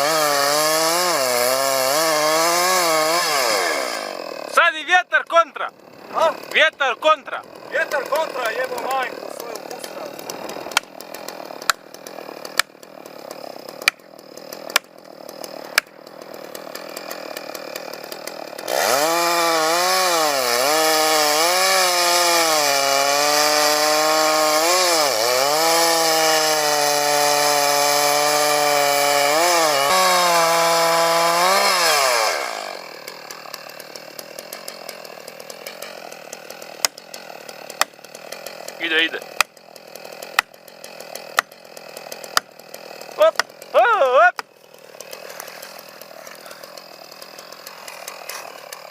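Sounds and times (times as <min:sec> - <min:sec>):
chainsaw cutting into tree: 0:00.0 - 0:48.9.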